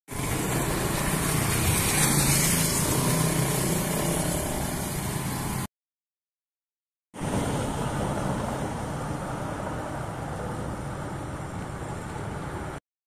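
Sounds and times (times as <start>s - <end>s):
street noise: 0.1s - 5.7s, 7.2s - 12.8s.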